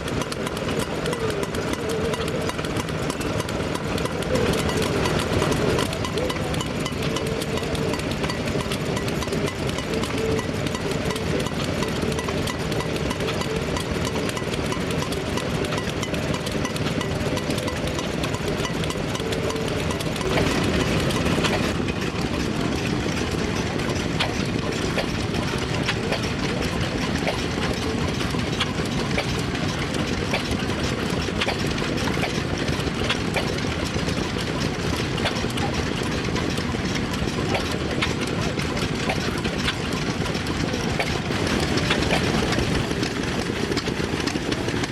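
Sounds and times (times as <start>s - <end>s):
old machinery clattering: 0.0s - 44.9s.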